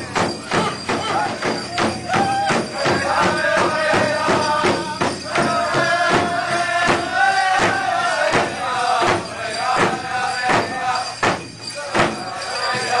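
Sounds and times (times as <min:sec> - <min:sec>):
large drum pounding: 0:00.0 - 0:13.0
singers chanting high: 0:00.0 - 0:13.0.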